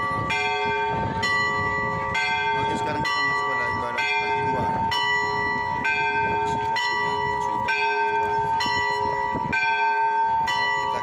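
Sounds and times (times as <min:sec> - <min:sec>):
church bells ringing two notes: 0:00.0 - 0:11.0
crowd chatter: 0:00.0 - 0:11.0.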